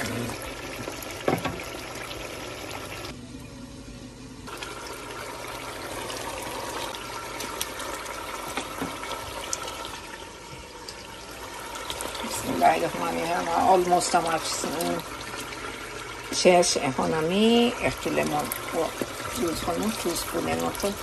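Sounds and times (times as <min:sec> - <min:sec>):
pot simmering and bubbling: 0:00.0 - 0:03.3, 0:04.4 - 0:21.0.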